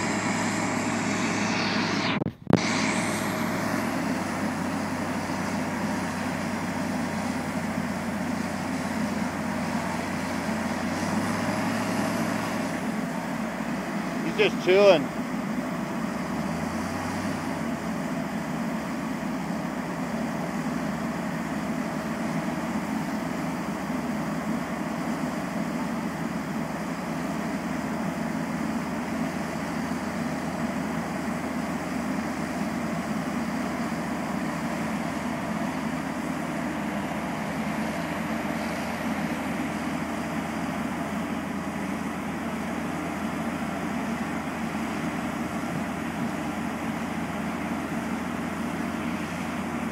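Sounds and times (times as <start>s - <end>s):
diesel engines droning under load: 0.0s - 49.9s.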